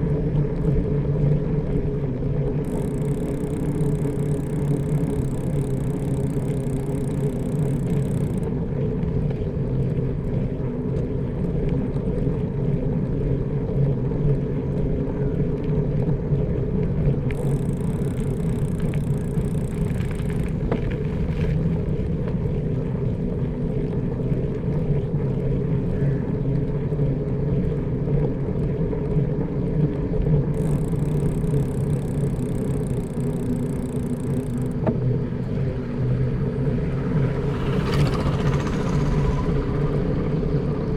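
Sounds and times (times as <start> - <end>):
bicycle tyre road noise: 0.0 - 40.9.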